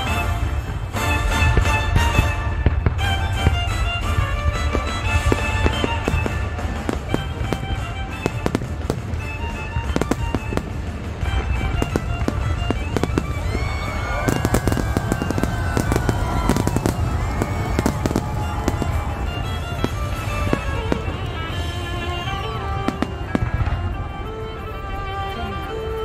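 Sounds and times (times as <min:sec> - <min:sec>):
fireworks bangs and crackling: 0:00.0 - 0:26.0
fireworks whistling: 0:00.0 - 0:26.0
music playing: 0:00.0 - 0:26.0.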